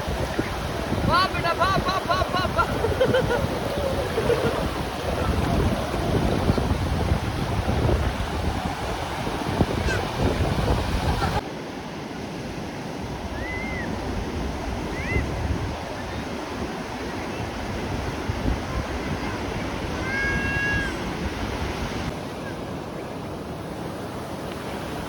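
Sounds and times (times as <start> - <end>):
wind buffeting microphone: 0.0 - 11.4, 13.0 - 22.2
surf breaking on beach: 0.0 - 25.0.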